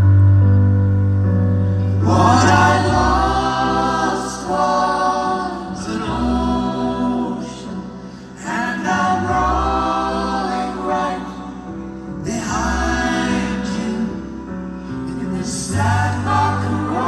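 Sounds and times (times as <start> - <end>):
band playing slow ballad: 0.0 - 17.0
wordless vocal harmonies: 0.0 - 17.0.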